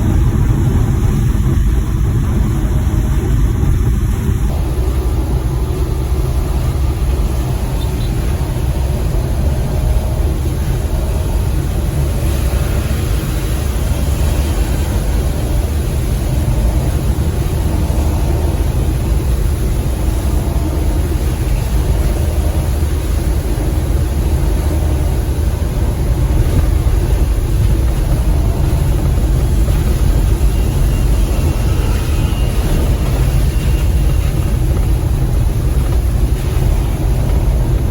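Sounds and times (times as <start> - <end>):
tyre and wind hiss: 0.0 - 37.9
van engine and road rumble: 0.0 - 37.9.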